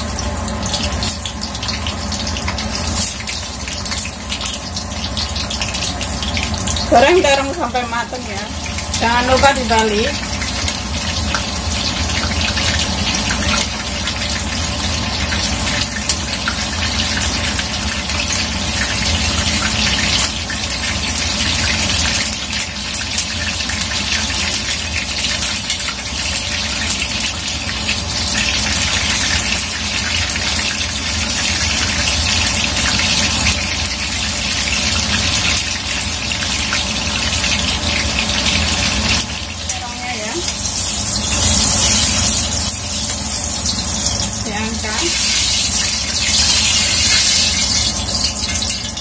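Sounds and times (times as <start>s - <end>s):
food sizzling in hot oil: 0.0s - 49.0s.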